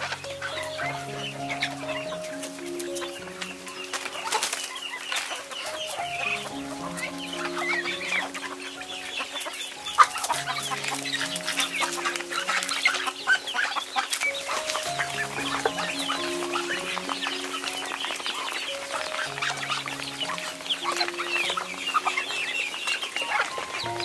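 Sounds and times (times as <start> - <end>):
chickens clucking: 0.0 - 24.0
soft background music: 0.0 - 24.0
birds pecking clicks: 1.8 - 24.0.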